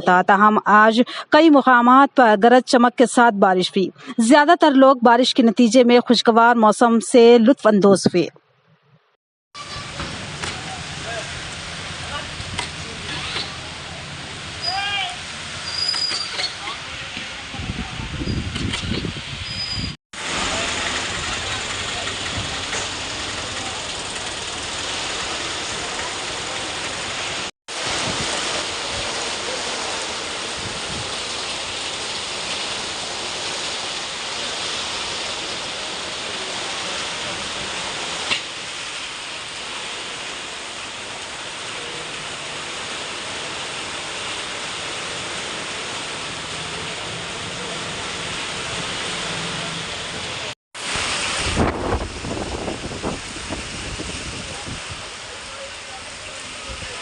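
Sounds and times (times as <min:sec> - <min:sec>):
heavy rain pouring: 0:09.6 - 0:57.0.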